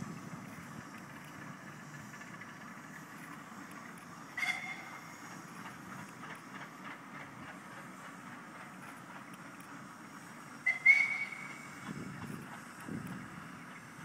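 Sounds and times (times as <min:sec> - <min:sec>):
distant vehicles running: 0:00.0 - 0:14.0.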